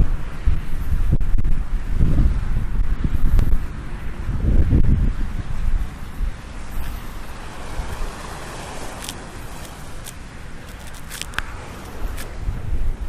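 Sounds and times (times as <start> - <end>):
ocean surf: 0.0 - 13.0
wind buffeting microphone: 0.0 - 13.0.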